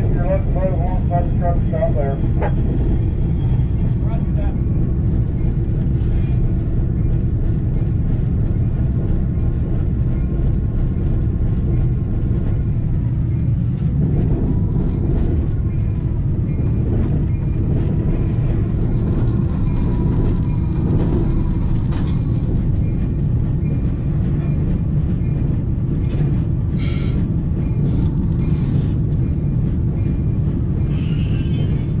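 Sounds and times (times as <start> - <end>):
diesel locomotive rumbling: 0.0 - 32.0.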